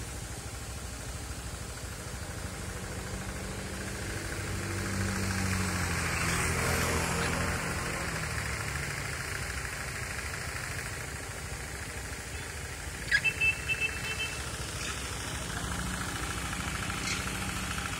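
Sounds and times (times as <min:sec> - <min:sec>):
road traffic engine rumble: 0:00.0 - 0:17.9.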